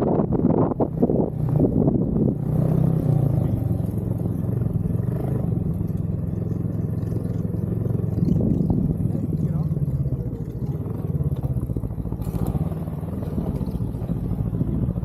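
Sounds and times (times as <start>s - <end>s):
snowmobile engine droning: 0.0s - 15.0s.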